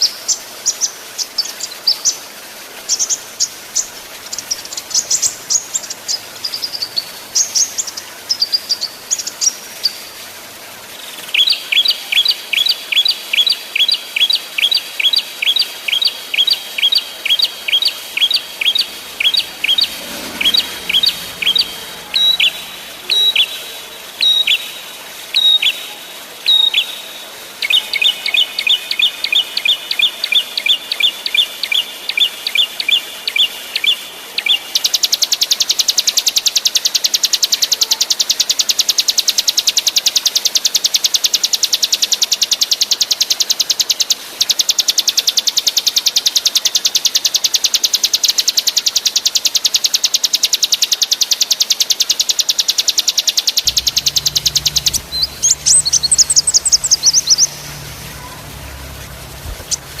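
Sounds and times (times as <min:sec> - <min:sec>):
songbird singing: 0:02.8 - 0:10.2, 0:10.9 - 0:37.2, 0:41.9 - 1:00.0.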